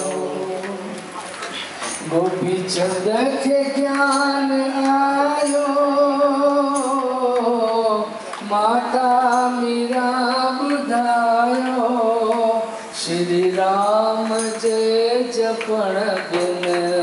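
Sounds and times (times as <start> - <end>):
person singing devotional song: 0.0 - 1.1, 1.9 - 17.0.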